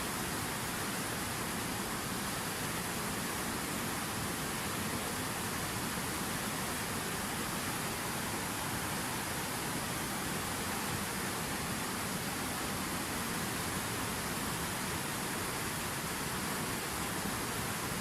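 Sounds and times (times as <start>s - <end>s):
fountain water splashing: 0.0s - 18.0s.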